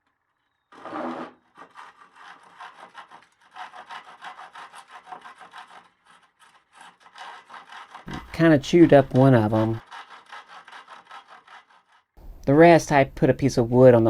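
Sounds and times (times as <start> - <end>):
handsaw rasping through wood: 0.7 - 12.1.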